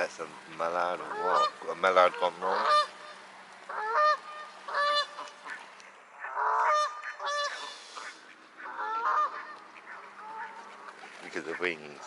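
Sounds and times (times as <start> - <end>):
waterfowl honking: 0.0 - 12.0.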